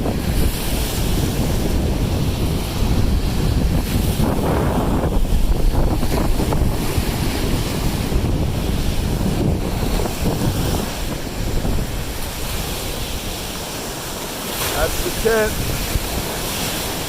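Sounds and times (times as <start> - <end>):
waves breaking on a beach: 0.0 - 17.0
wind buffeting microphone: 0.0 - 17.0.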